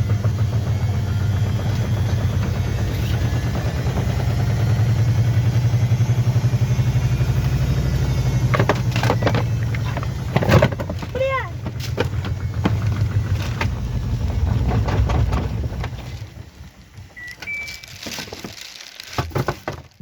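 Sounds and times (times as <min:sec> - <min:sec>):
washing machine drum spinning: 0:00.0 - 0:18.5.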